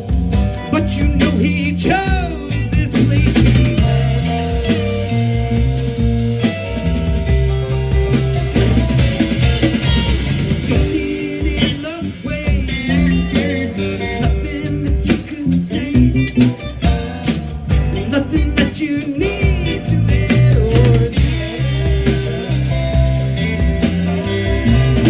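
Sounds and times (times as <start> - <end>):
person singing: 0.0 - 6.0, 9.4 - 25.0
rock blues band playing: 0.0 - 25.0.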